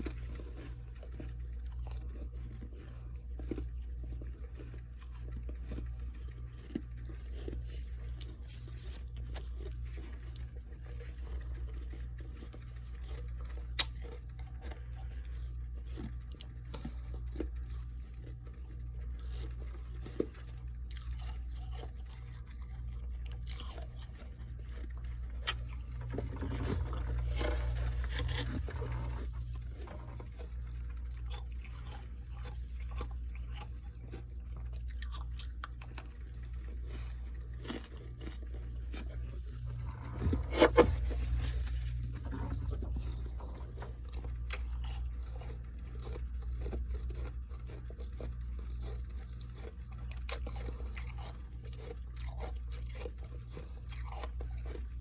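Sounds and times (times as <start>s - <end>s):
chewing and crunching frost: 0.0s - 55.0s
steady low hum: 0.0s - 55.0s.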